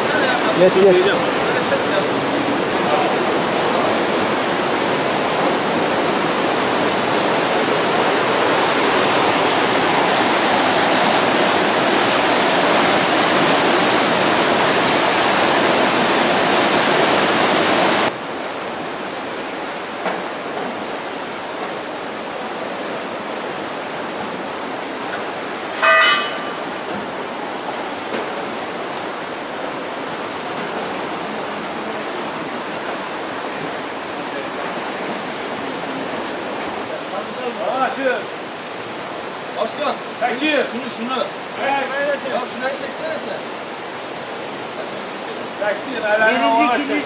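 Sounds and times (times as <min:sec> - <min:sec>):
river rushing over rapids: 0:00.0 - 0:47.0.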